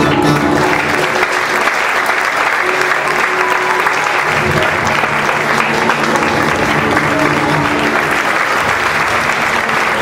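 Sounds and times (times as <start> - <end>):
audience applauding: 0.0 - 10.0
background music: 0.0 - 10.0.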